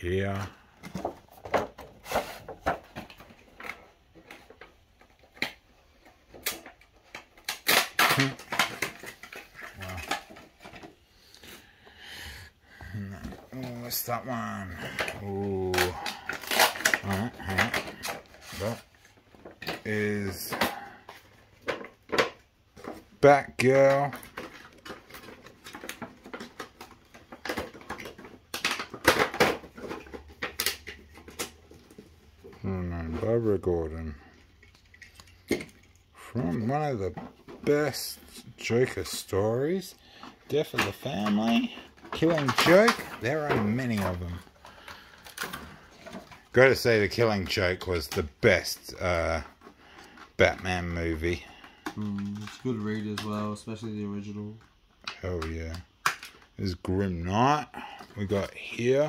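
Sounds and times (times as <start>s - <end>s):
plastic packaging clicks and rustles: 0.1s - 11.8s, 13.0s - 59.0s.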